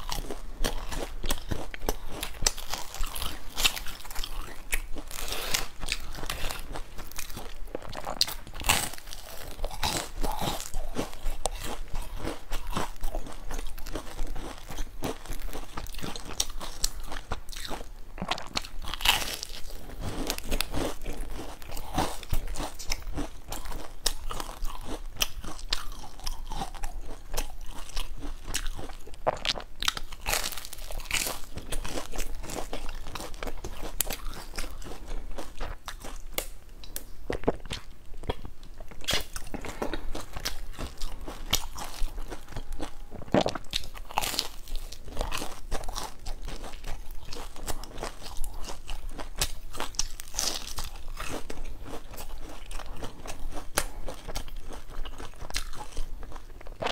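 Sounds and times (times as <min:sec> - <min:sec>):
crunchy pastry chewing: 0:00.0 - 0:56.9.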